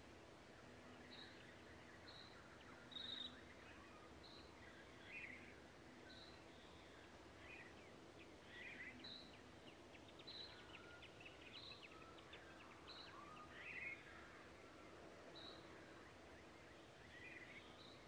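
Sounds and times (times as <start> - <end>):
low steady hum: 0.0 - 18.0
small birds chirping: 0.6 - 18.0.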